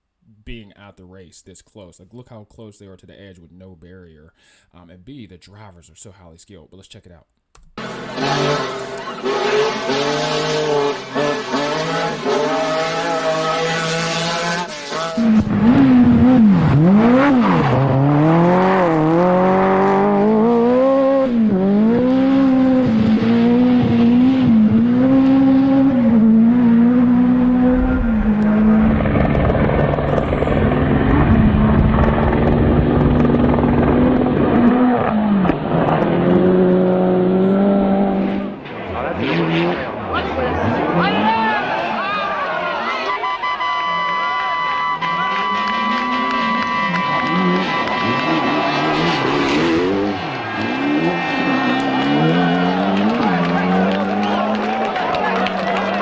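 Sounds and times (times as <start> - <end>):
rally car engines revving: 7.8 - 56.0.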